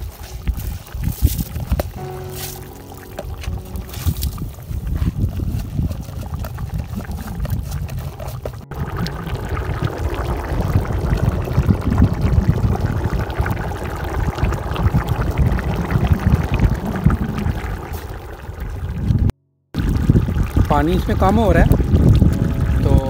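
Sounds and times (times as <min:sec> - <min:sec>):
stock boiling in a pot: 0:00.0 - 0:02.0, 0:02.7 - 0:23.0.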